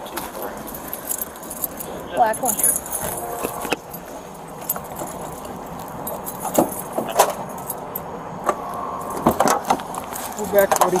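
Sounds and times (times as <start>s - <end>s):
keys jangling: 0.3s - 11.0s.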